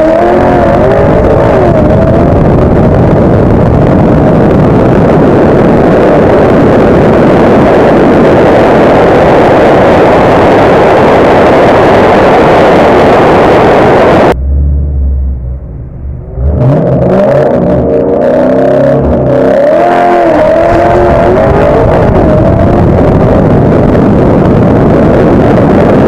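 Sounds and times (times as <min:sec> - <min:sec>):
low engine rumble: 0:00.0 - 0:12.0, 0:12.8 - 0:26.0
car engine at full throttle: 0:00.0 - 0:26.0.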